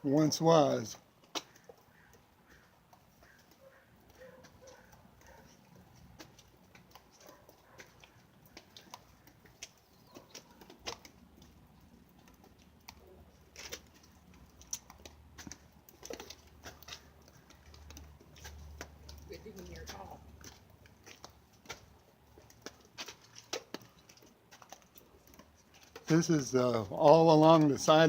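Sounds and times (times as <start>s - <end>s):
faint clicks and light taps: 0.9s - 26.2s.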